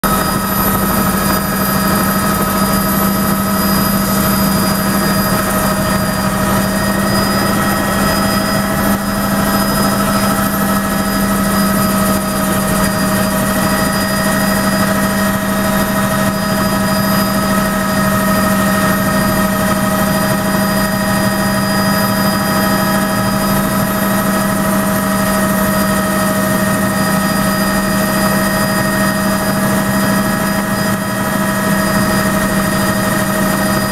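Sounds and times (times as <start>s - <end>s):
helicopter flying: 0.0s - 33.9s.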